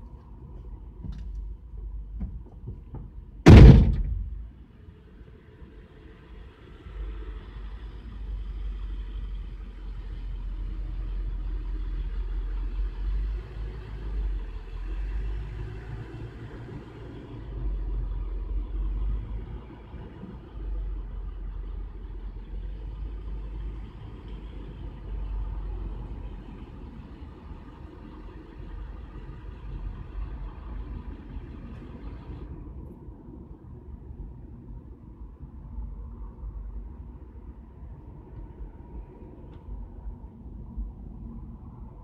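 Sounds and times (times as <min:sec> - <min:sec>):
vehicle engine idling: 0:00.0 - 0:34.4.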